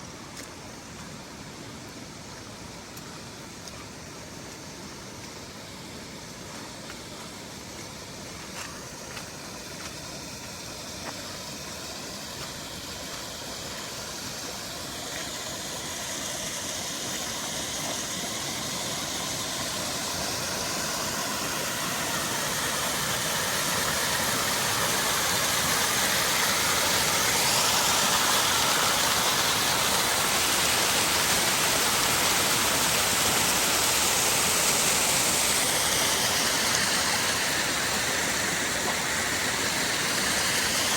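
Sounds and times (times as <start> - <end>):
rushing water from heavy rain: 1.8 - 40.9.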